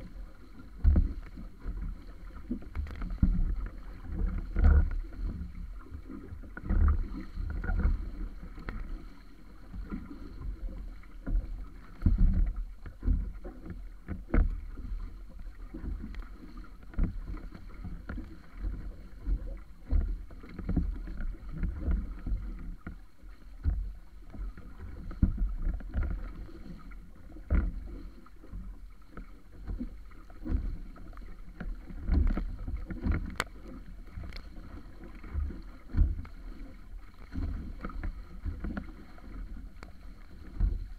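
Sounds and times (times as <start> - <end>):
water splashing against canoe hull: 0.0 - 40.9.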